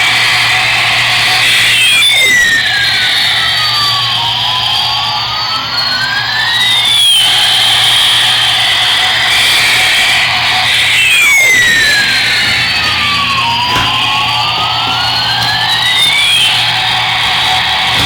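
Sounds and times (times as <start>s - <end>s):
toy jet engine sound effect: 0.0s - 18.0s.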